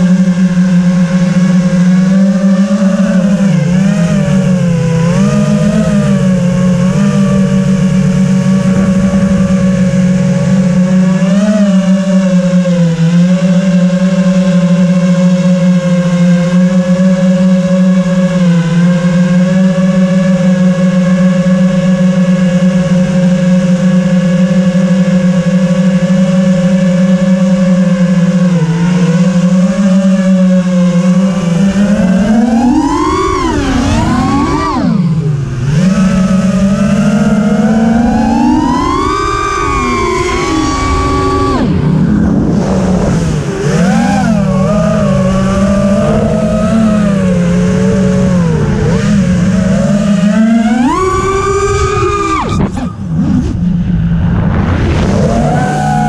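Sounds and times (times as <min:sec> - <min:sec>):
drone motors buzzing: 0:00.0 - 0:56.0.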